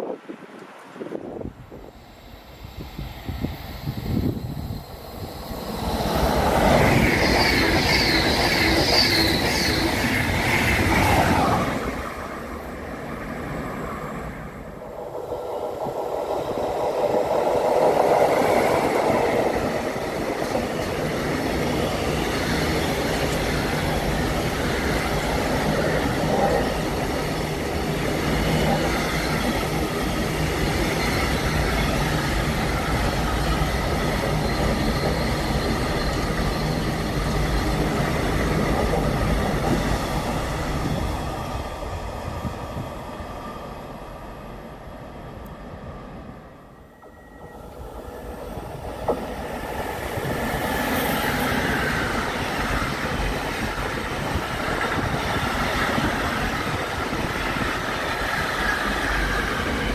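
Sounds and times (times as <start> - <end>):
electric locomotive passing: 0.0 - 59.9
freight train wheel rumble: 0.0 - 59.9
train passing loudly: 0.0 - 59.9.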